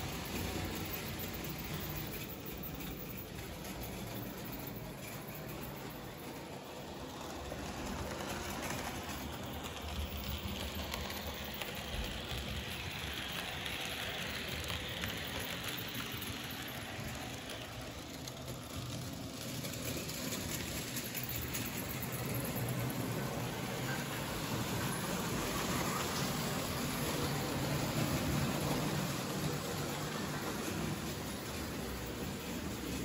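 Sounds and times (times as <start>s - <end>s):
model trains rolling on track: 0.0s - 33.0s.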